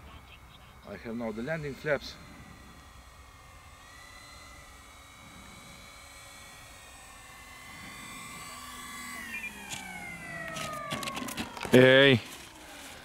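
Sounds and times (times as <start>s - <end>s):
electric motors and propellers whining: 0.0s - 13.0s.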